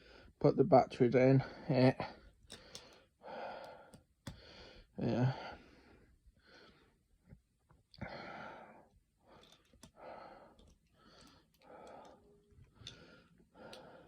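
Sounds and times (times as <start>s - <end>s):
person breathing: 1.5s - 7.2s, 7.9s - 14.0s.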